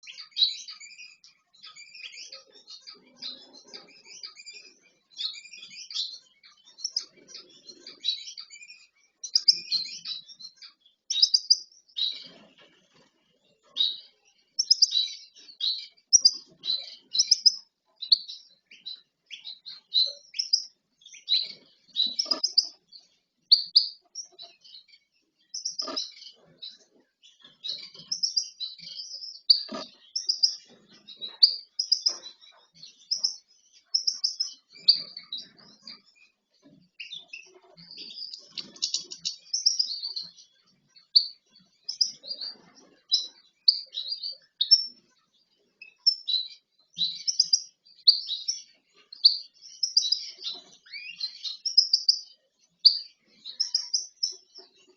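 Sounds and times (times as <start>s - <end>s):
finches chirping: 0.0s - 54.9s.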